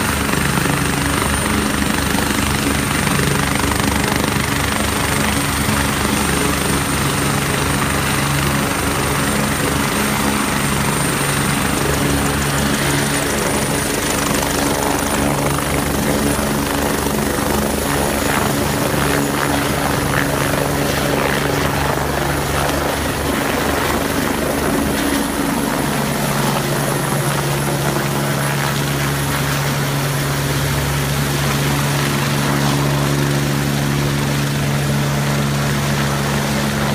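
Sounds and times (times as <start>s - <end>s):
helicopter rotor chopping: 0.0s - 36.9s.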